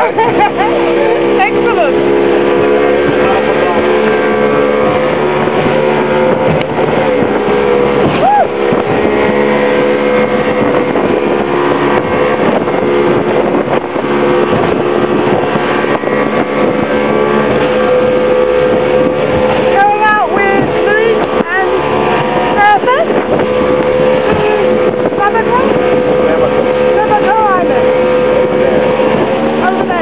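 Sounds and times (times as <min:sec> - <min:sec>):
motorboat engine droning: 0:00.0 - 0:30.0
wind noise rushing: 0:00.0 - 0:30.0.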